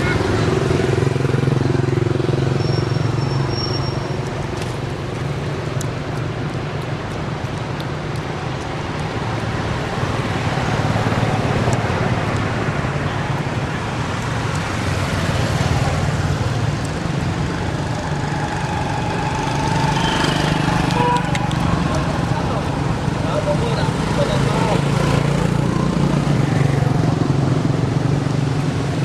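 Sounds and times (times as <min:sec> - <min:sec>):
traffic hiss: 0:02.6 - 0:29.0.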